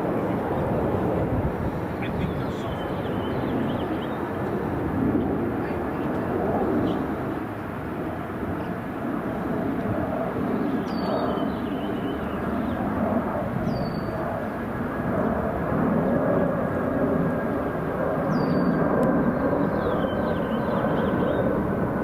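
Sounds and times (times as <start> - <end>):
aircraft engine rumble: 0.0 - 22.0.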